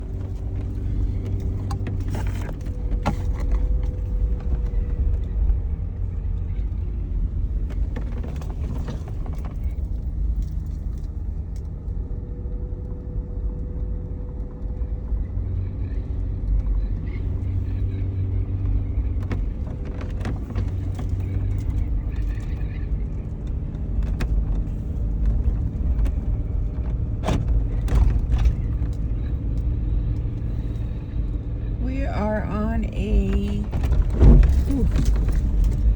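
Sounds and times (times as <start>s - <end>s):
vehicle knocks and rattles: 0.0s - 11.5s, 16.5s - 32.4s, 33.1s - 35.9s
low engine rumble: 0.0s - 35.9s.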